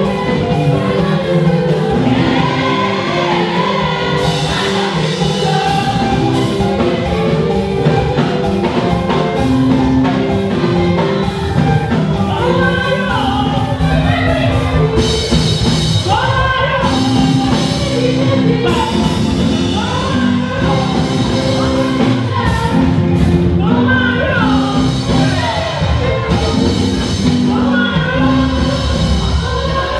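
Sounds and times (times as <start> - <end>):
band with steady beat: 0.0 - 29.9
voices singing: 0.0 - 29.9.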